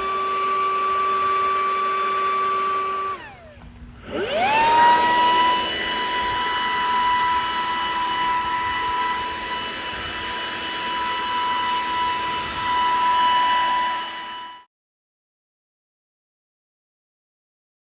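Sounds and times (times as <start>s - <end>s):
leaf blower running: 0.0s - 14.7s.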